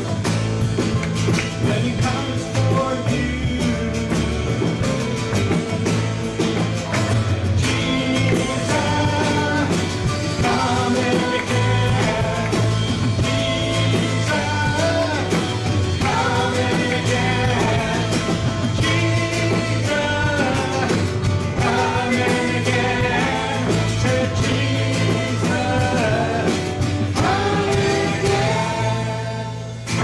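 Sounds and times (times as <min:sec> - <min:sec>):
electric guitar: 0:00.0 - 0:30.0
strummed acoustic guitar: 0:00.0 - 0:30.0
backing vocals: 0:01.5 - 0:30.0
man singing lead: 0:01.5 - 0:30.0.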